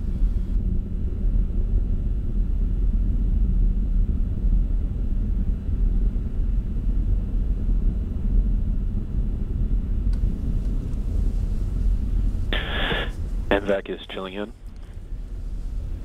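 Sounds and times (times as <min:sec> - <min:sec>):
distant rocket engine rumble: 0:00.0 - 0:16.0.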